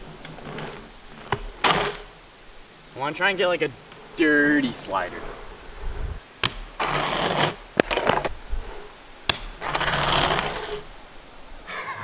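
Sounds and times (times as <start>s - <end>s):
bike tyres scraping on asphalt: 0.0s - 11.6s.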